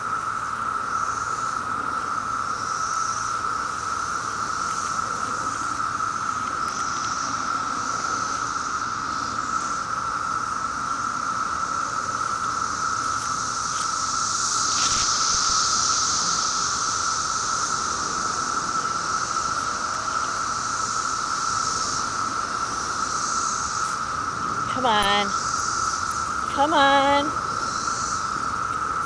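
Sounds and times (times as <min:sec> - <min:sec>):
cicadas droning: 0:00.0 - 0:29.0.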